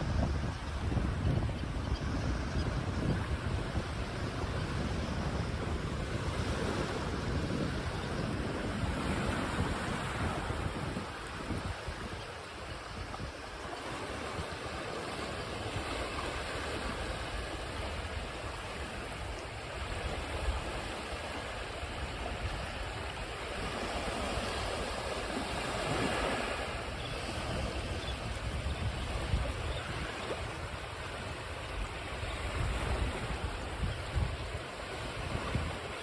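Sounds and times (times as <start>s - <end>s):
ocean waves on shore: 0.0s - 36.0s.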